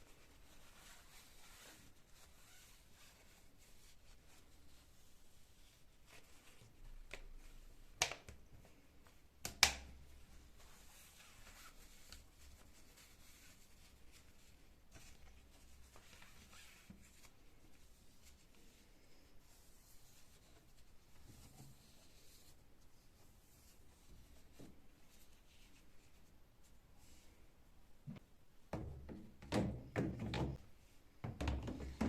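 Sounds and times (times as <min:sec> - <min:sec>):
faint rustling and handling: 0:00.0 - 0:28.7.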